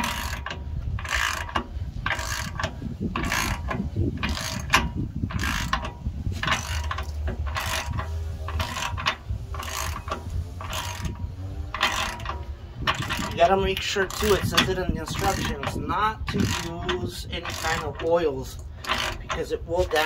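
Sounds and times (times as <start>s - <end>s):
hand ratchet clicking: 0.0s - 20.0s.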